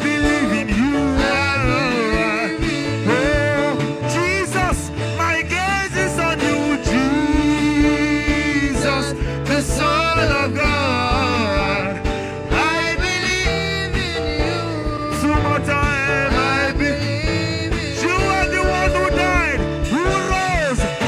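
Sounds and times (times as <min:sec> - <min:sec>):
solo voice singing gospel: 0:00.0 - 0:21.0
sustained chords and bass: 0:00.0 - 0:21.0.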